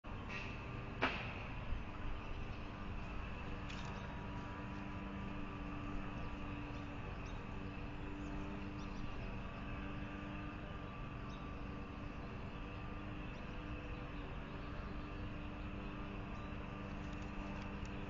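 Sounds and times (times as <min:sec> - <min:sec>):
steady low hum: 0:00.0 - 0:18.0
small birds chirping: 0:00.1 - 0:18.0.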